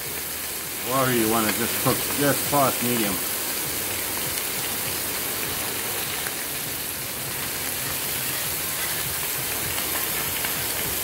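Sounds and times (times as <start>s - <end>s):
fish and onions sizzling in pan: 0.0s - 11.0s.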